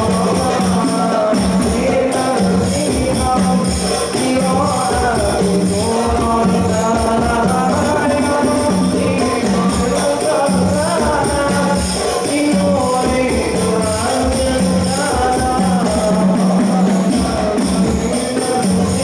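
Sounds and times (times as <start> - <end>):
drum beats: 0.0 - 19.0
man singing devotional song: 0.0 - 19.0.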